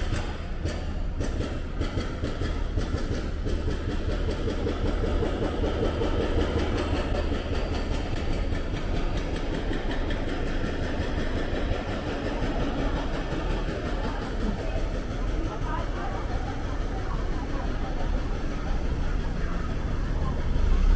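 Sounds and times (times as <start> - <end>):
street noise: 0.0 - 20.9
traffic engines rumbling: 0.0 - 20.9.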